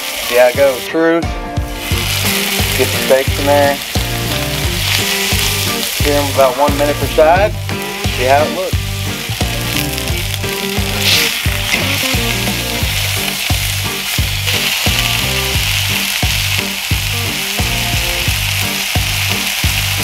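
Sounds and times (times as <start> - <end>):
background music with steady beat: 0.0 - 20.0
steaks sizzling in a skillet: 0.0 - 20.0.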